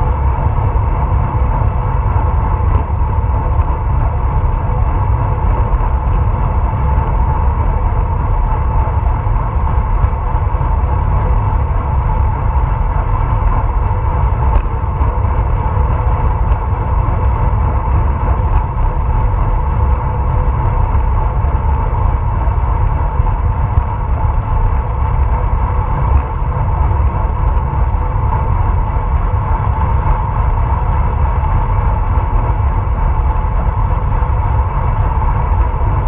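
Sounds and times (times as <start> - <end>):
bicycle tyres and drivetrain hum: 0.0 - 36.0
wind buffeting on microphone: 0.0 - 36.0.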